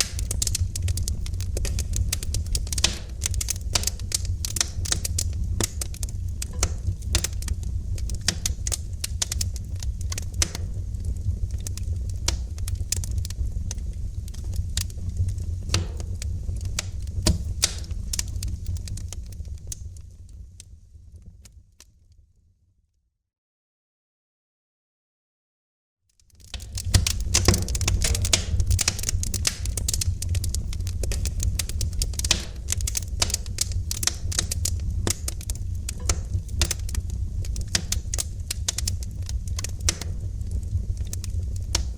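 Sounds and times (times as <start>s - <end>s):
wood fire crackling and popping: 0.0s - 21.9s, 26.1s - 41.9s
low fire rumble: 0.0s - 22.3s, 26.2s - 41.9s.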